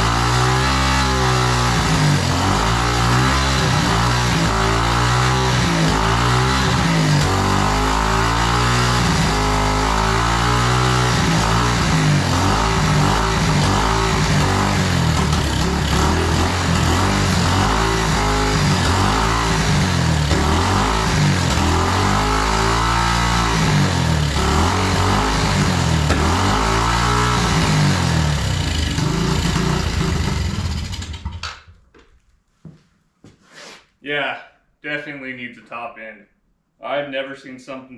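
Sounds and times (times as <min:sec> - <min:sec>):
small motorcycle engine revving: 0:00.0 - 0:31.5.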